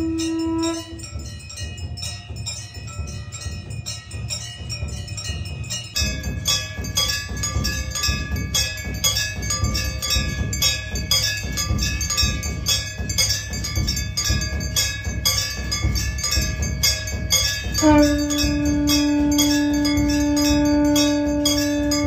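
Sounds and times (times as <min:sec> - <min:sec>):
low beat: 0:00.0 - 0:02.4, 0:04.8 - 0:22.0
temple bells ringing: 0:00.0 - 0:22.0.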